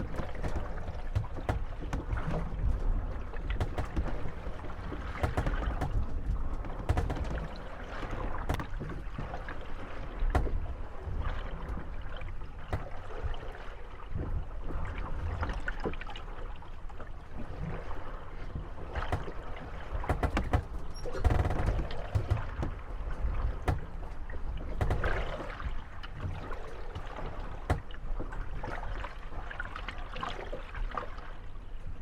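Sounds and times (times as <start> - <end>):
water sloshing around hulls: 0.0 - 32.0
wooden boats knocking and creaking: 0.0 - 32.0.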